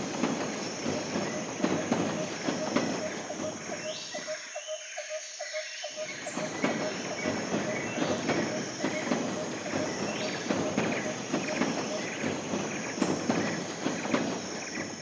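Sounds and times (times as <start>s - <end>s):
wheels clicking over rail joints: 0.0s - 4.6s, 5.9s - 15.0s
train rumbling on track: 0.0s - 4.7s, 5.9s - 15.0s.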